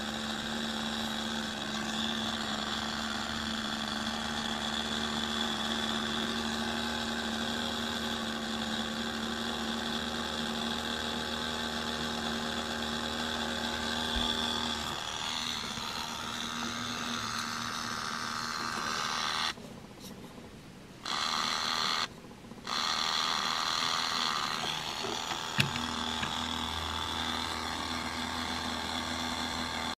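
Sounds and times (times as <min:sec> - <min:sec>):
small electric motor whirring: 0:00.0 - 0:20.2, 0:21.0 - 0:30.0.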